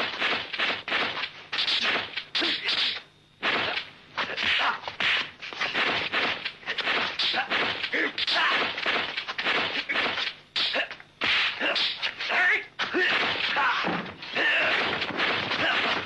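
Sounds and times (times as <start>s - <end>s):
punch and kick impacts: 0.0s - 12.2s, 12.8s - 16.0s.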